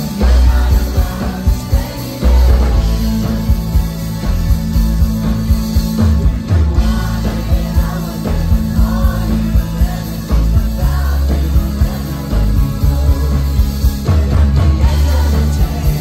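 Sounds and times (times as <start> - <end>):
drums: 0.0 - 16.0
electric guitars: 0.0 - 16.0
keyboards: 0.0 - 16.0.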